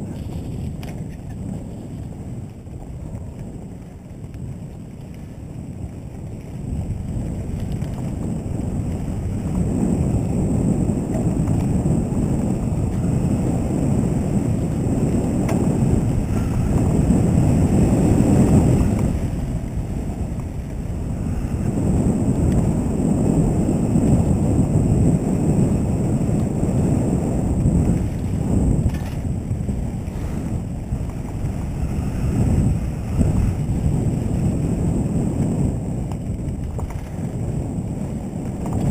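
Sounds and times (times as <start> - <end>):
low rumble of bike tyres: 0.0 - 38.9
wind rushing over microphone: 0.0 - 38.9.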